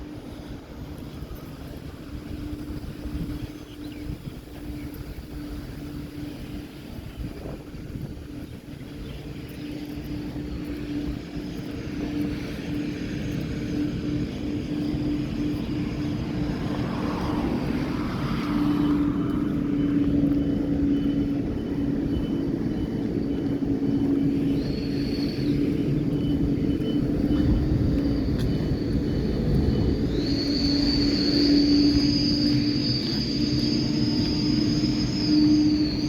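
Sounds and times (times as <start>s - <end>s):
engine humming: 0.0s - 36.0s.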